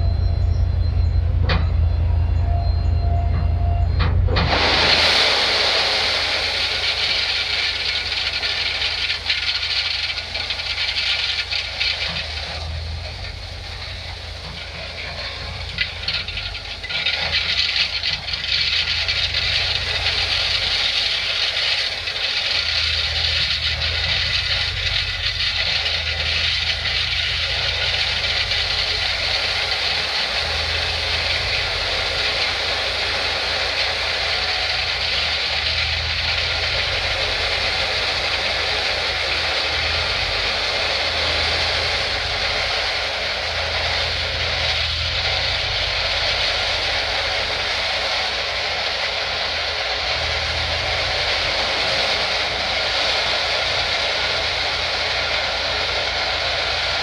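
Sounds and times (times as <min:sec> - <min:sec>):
truck engine running: 0:00.0 - 0:57.0
gravel pouring and rattling: 0:04.4 - 0:57.0.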